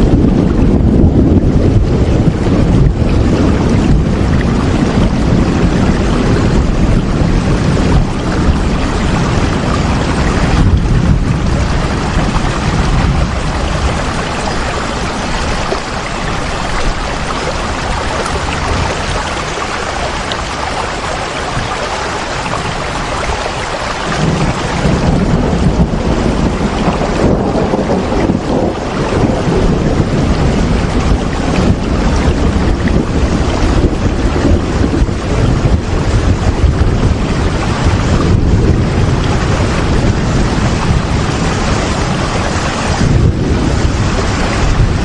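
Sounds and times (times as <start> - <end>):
deep rumble: 0.0 - 45.0
steady rain hiss: 0.0 - 45.0.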